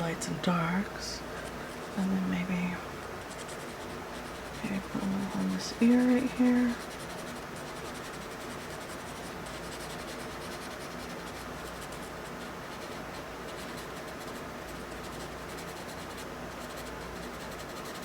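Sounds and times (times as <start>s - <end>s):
background hiss: 0.0s - 18.0s
scratchy strokes on paper: 3.2s - 18.0s.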